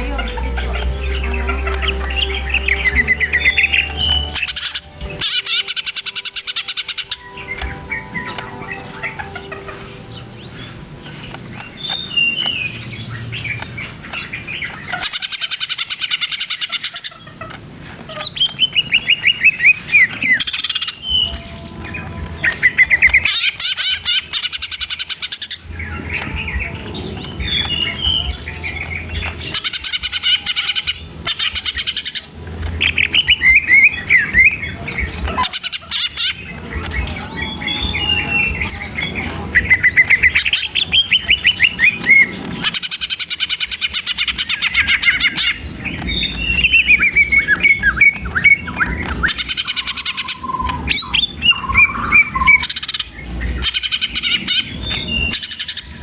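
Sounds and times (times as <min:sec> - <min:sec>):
young songbird chirping: 0:00.0 - 0:17.4, 0:18.2 - 0:56.0.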